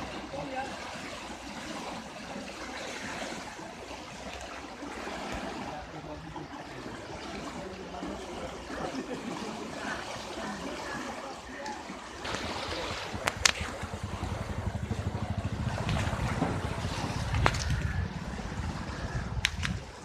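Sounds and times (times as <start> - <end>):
flood water rushing and churning: 0.0 - 20.0.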